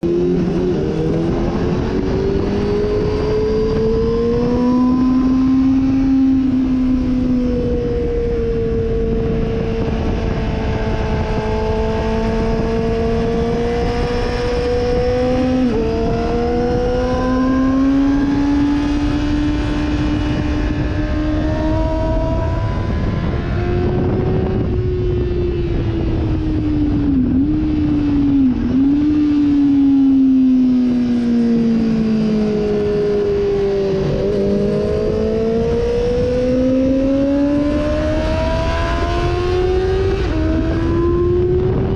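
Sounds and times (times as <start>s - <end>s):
heavy wind noise: 0.0s - 41.9s
motorcycle engine revving: 0.0s - 41.9s.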